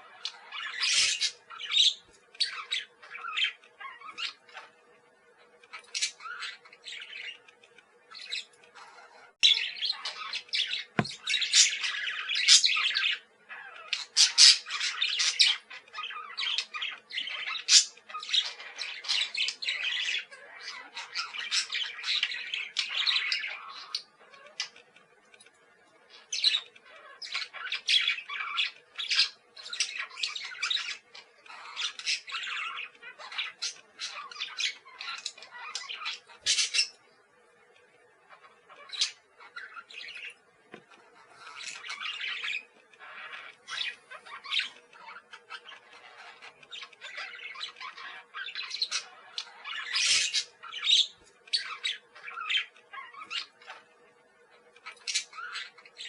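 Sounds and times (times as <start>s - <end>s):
parakeets chattering and squawking: 0.0s - 56.0s.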